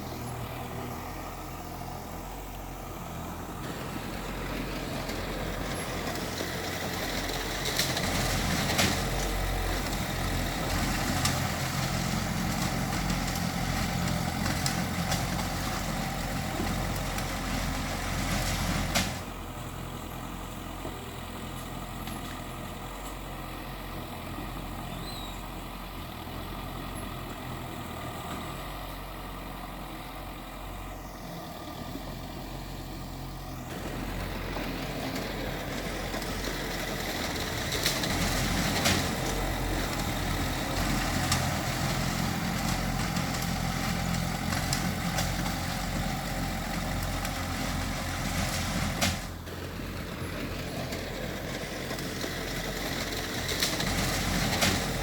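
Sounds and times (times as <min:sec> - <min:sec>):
diesel earthmoving machinery: 0:00.0 - 0:55.0.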